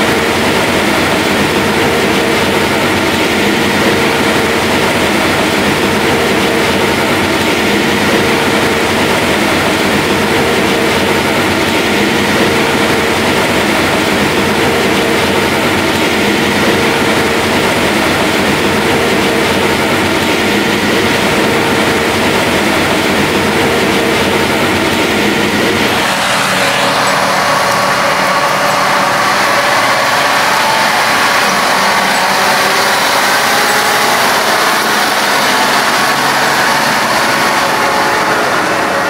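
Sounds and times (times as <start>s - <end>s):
heavy machinery deep hum: 0.0s - 39.0s
high steady machine whine: 0.0s - 39.0s.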